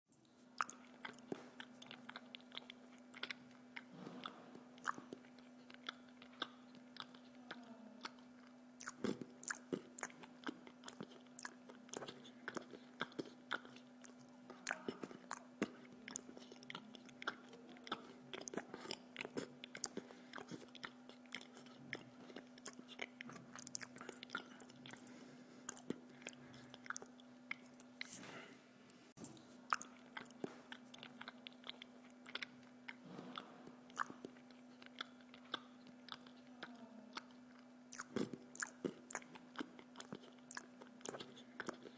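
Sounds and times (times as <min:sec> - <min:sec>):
mouth chewing food: 0:00.2 - 0:28.5, 0:29.1 - 0:41.9.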